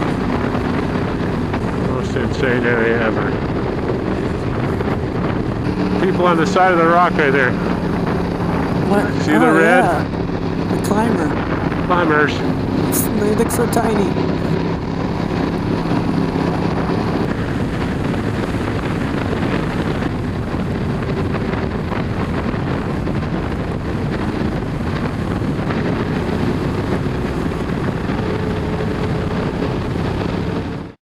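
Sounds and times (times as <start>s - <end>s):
motorcycle engine cruising: 0.0s - 31.0s
wind buffeting microphone: 0.0s - 31.0s.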